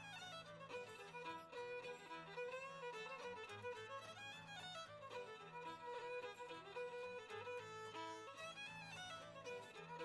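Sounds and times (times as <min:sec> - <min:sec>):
violin playing slow melody: 0:00.0 - 0:10.0.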